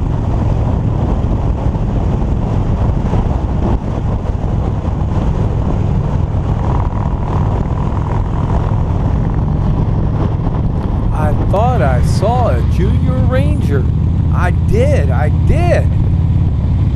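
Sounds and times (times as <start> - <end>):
motorcycle engine drone: 0.0 - 16.9
wind and road rush: 0.0 - 16.9.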